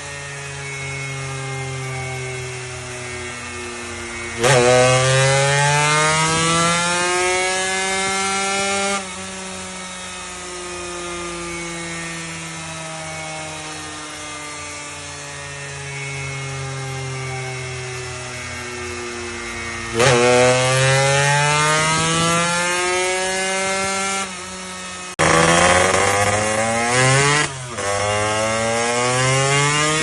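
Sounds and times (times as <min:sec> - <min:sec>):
engine idling and revving: 0:00.0 - 0:30.0.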